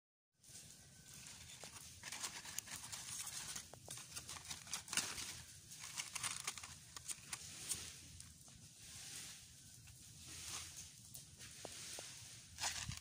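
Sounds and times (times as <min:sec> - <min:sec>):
dry leaves and paper crinkling: 0:00.4 - 0:13.0.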